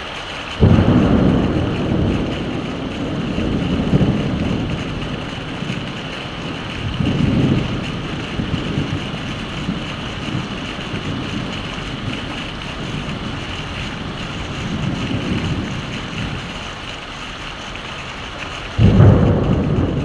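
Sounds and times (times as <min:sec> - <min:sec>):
heavy rain falling: 0:00.0 - 0:20.0
thunder rumbling: 0:00.5 - 0:20.0.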